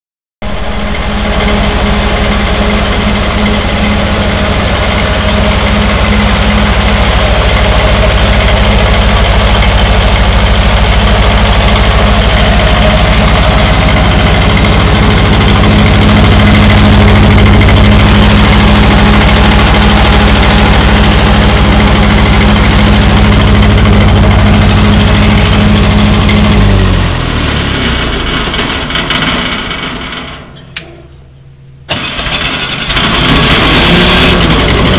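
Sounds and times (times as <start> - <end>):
gasoline engine running: 0.4 - 34.9.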